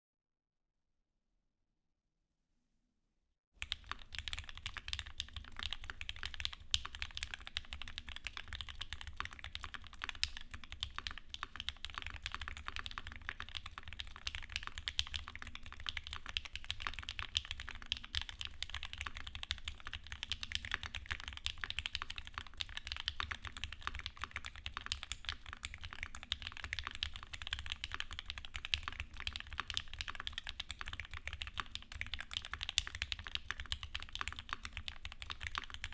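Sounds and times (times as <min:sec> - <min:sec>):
fast typing on mechanical keyboard: 0:03.6 - 0:35.9.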